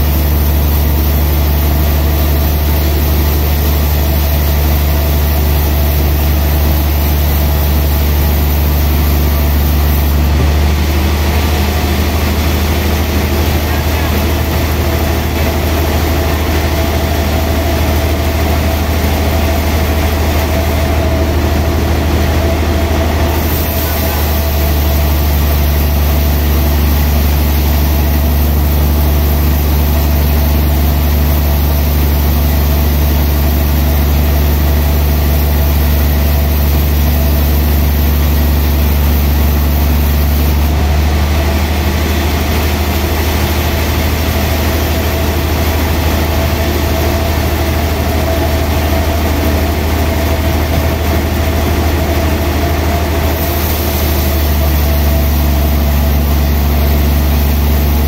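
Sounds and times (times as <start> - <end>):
band sawmill humming: 0.0 - 58.0.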